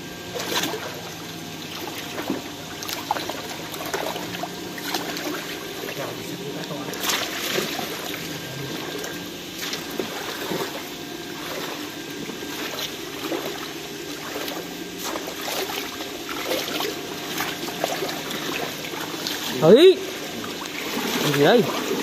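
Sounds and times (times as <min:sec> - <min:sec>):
water sloshing from wading: 0:00.2 - 0:22.0.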